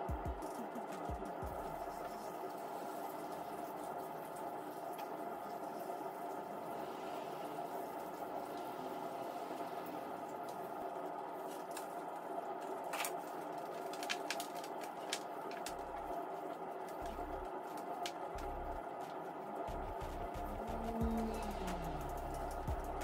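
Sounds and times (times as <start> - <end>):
steady background hum: 0.0 - 23.0
soil rustling and crackling: 1.4 - 22.9.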